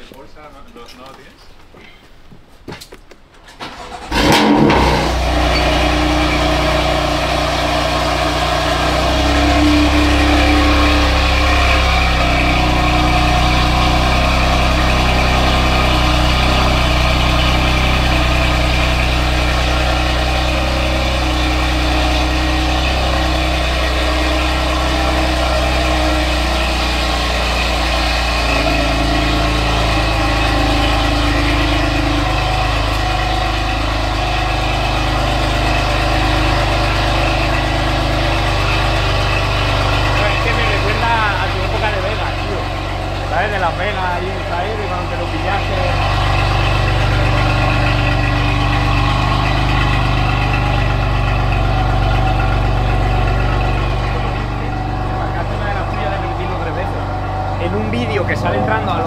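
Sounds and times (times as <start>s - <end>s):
car engine starting and idling: 3.4s - 59.0s.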